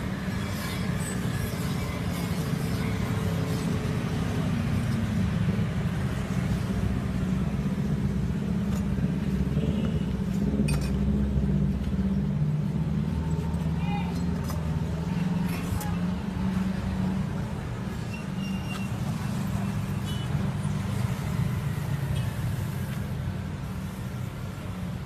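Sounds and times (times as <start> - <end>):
busy street rumble: 0.0 - 25.0.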